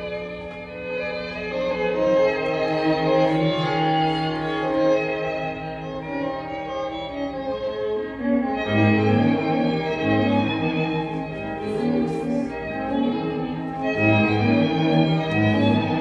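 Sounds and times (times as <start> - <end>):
slow instrumental music: 0.0 - 16.0.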